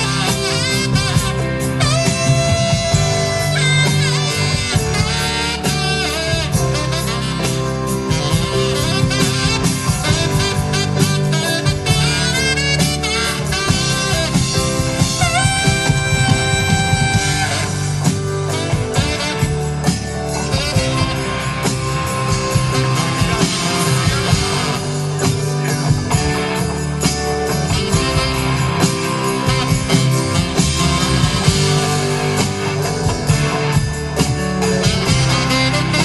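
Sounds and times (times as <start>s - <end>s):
drum kit: 0.0s - 36.0s
guitar lines: 0.0s - 36.0s.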